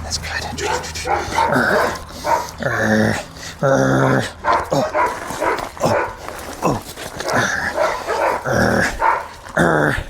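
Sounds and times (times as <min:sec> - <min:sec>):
dog barking and yipping: 0:00.6 - 0:06.4, 0:07.1 - 0:09.5.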